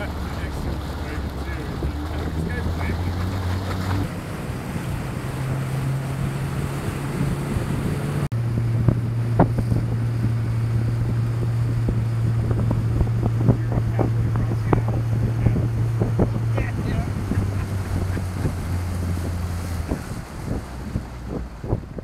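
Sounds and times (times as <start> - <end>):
boat motor humming: 0.0 - 22.0
water rushing: 0.0 - 22.0
wind on microphone: 0.0 - 22.0.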